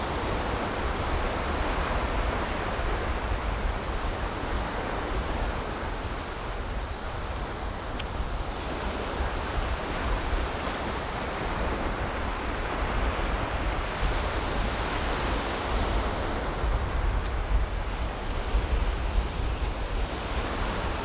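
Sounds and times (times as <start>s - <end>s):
ocean surf: 0.0s - 21.0s
wind buffeting microphone: 0.0s - 21.0s.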